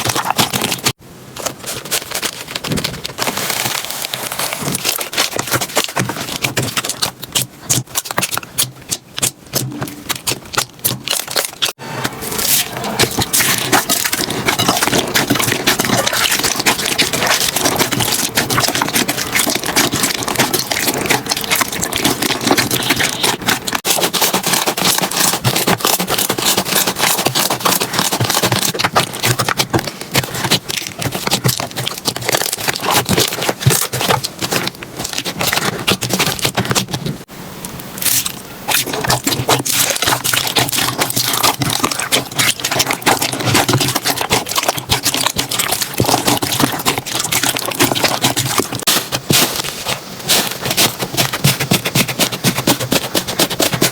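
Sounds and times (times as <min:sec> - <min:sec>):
slime crackling and popping: 0:00.0 - 0:53.9.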